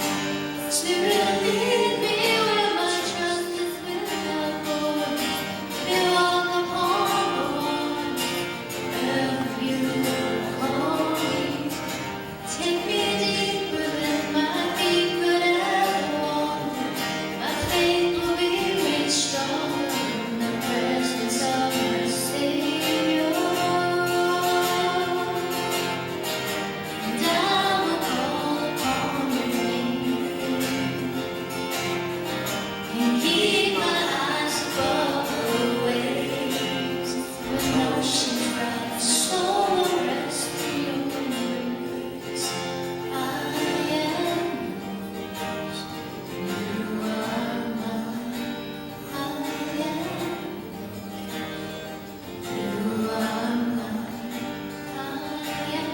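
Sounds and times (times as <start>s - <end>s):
person singing with guitar: 0.0s - 55.9s.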